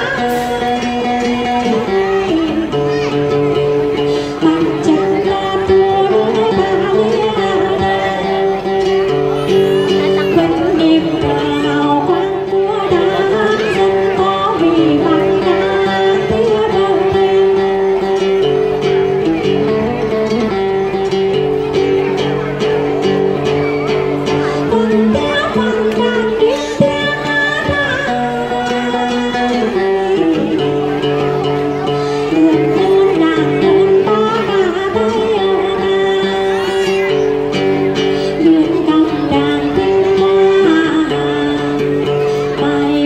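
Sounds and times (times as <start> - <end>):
woman singing: 0.0 - 18.6, 24.2 - 31.4, 32.1 - 43.0
plucked lute: 0.0 - 43.0.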